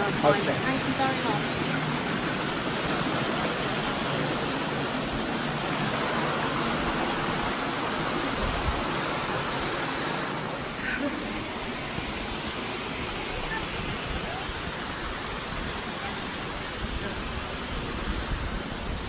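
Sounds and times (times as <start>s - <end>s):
stream rushing over rocks: 0.0s - 19.0s
waterfall: 0.0s - 19.0s.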